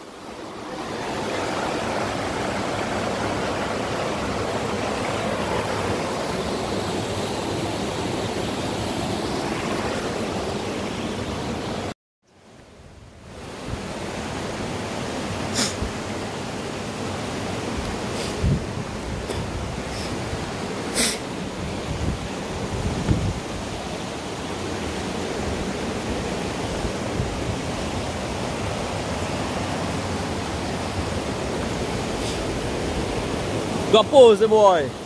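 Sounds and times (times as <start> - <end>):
stream rushing over stones: 0.0 - 12.0, 13.4 - 35.0.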